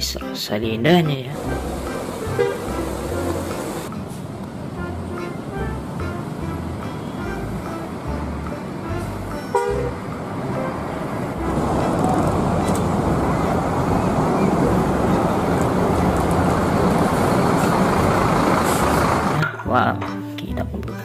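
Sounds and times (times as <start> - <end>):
coaches driving past: 1.4 - 19.5.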